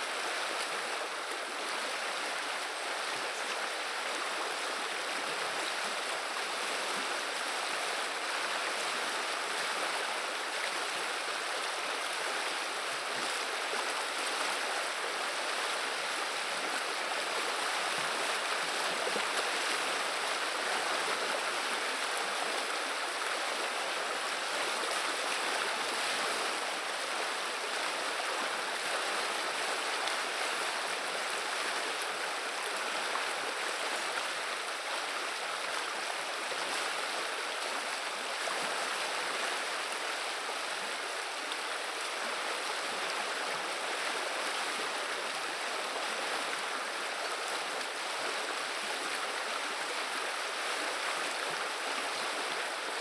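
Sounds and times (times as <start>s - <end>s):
river water rushing over shallows: 0.0s - 53.0s.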